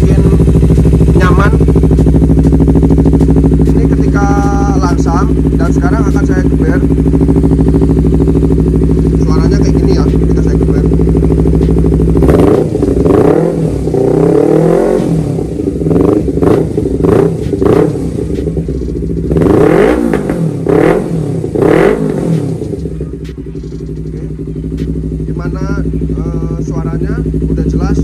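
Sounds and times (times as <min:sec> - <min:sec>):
motorcycle engine idling: 0:00.0 - 0:28.0
motorcycle engine revving: 0:00.0 - 0:28.0.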